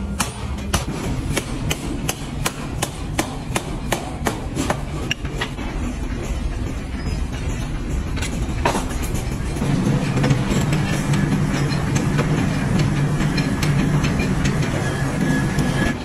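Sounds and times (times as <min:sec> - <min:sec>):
forging hammer striking steel: 0:00.0 - 0:06.0, 0:08.2 - 0:16.0.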